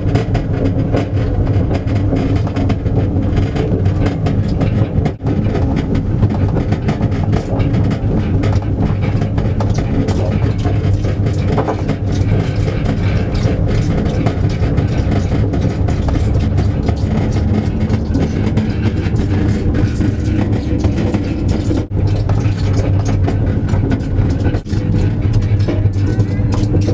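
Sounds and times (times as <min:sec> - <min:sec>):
cart rolling on pavement: 0:00.0 - 0:26.9
small rattles and clicks: 0:00.0 - 0:26.9.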